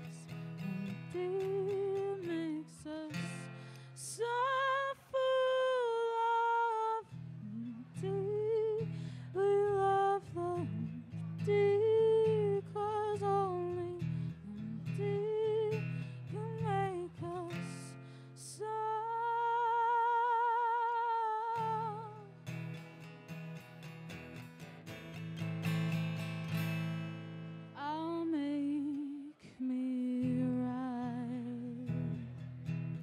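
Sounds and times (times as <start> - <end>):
woman singing: 0.0 - 22.4, 27.8 - 32.5
acoustic guitar strumming: 0.0 - 29.0, 30.2 - 33.0.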